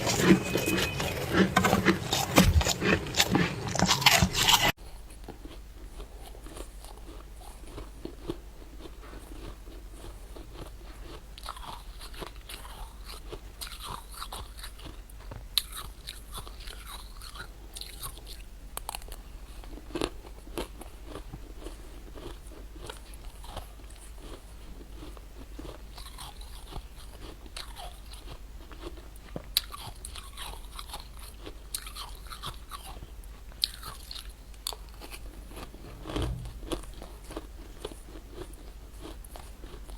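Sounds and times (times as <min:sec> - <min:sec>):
chewing frost crunches: 0:00.0 - 0:39.9.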